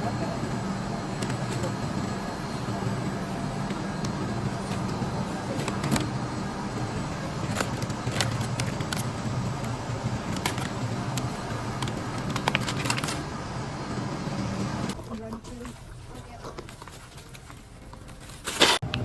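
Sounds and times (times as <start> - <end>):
steady low hum: 0.0 - 17.8
scattered clicks and knocks: 0.0 - 19.0.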